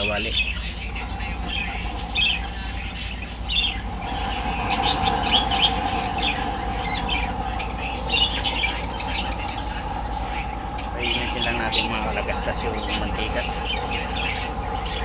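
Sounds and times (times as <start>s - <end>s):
small birds chirping: 0.0s - 15.0s
steady hum: 0.0s - 15.0s.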